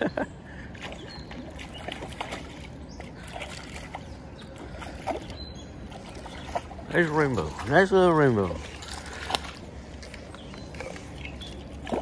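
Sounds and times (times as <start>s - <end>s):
creek running: 0.0s - 12.0s
fish splashing at water surface: 0.7s - 7.9s, 8.5s - 12.0s.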